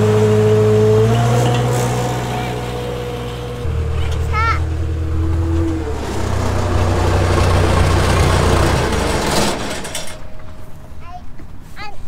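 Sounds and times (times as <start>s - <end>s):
bulldozer diesel engine under load: 0.0s - 10.7s.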